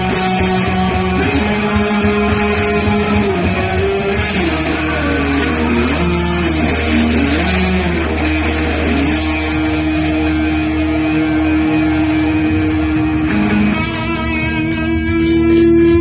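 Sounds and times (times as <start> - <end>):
rock guitar melody: 0.0 - 16.0.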